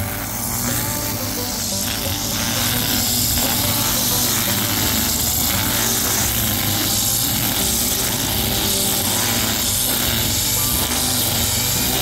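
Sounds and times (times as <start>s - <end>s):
brush cutter engine running: 0.0s - 12.0s
nylon line cutting grass: 0.0s - 12.0s.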